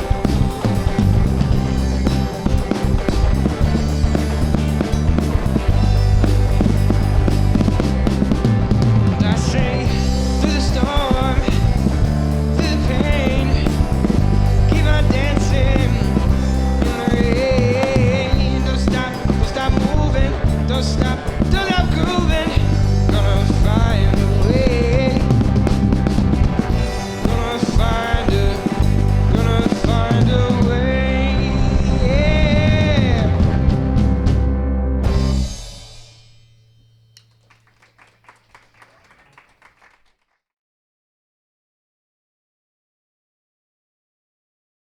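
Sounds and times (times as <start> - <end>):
bass: 0.0 - 40.1
drums: 0.0 - 40.1.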